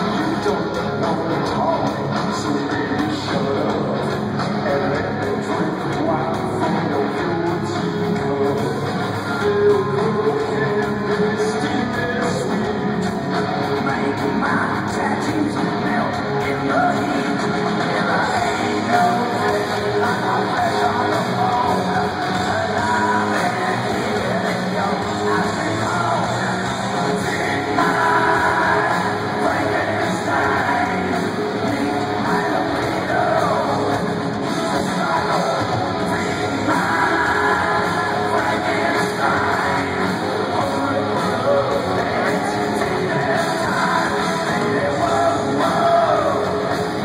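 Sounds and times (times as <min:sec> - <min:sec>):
live rock music with singer: 0:00.0 - 0:47.0.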